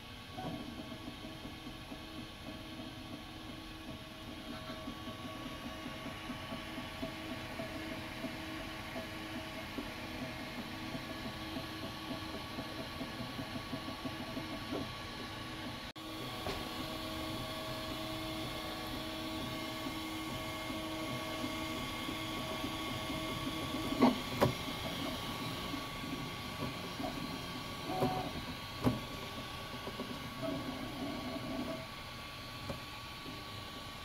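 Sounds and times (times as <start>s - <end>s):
stepper motors humming: 0.4s - 34.0s.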